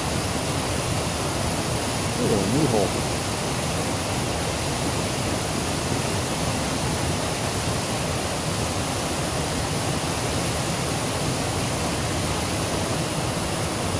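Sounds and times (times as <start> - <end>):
creek water rushing: 0.0 - 13.9.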